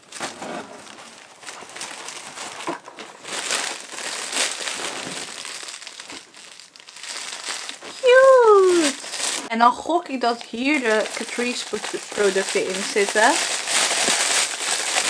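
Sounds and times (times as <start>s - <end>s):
cellophane crinkling and rustling: 0.0s - 15.0s.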